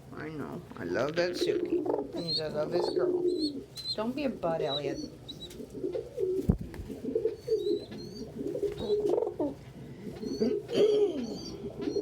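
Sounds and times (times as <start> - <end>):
pigeons cooing: 1.3 - 12.0.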